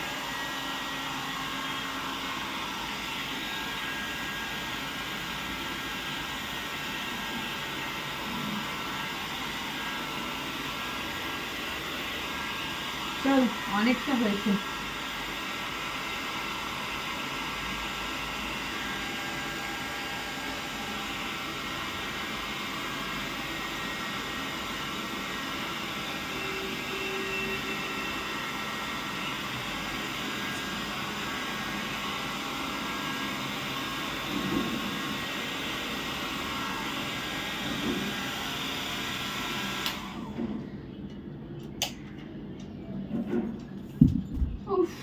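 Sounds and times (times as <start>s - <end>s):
hair dryer running: 0.0s - 40.5s.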